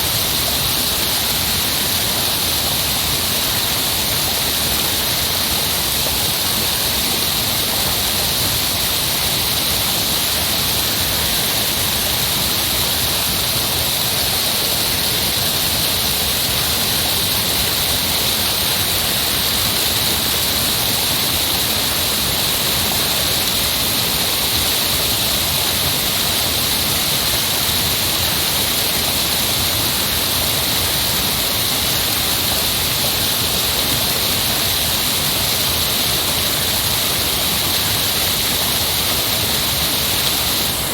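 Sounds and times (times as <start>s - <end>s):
heavy rushing water: 0.0s - 40.9s.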